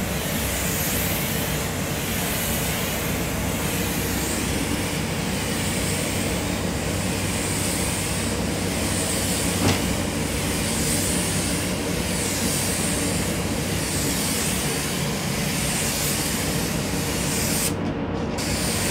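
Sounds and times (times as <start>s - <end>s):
paint spray gun hissing: 0.0s - 17.8s, 18.4s - 18.9s
ventilation rumble: 0.0s - 18.9s.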